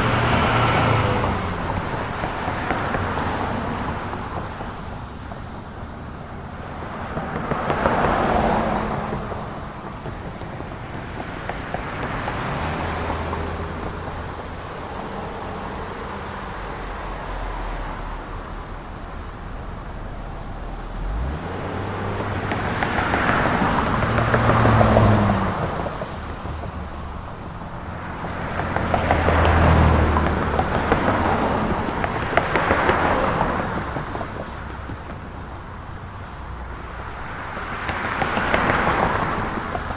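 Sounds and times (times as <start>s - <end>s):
road noise: 0.0s - 39.9s
vehicles passing close by: 0.0s - 39.9s.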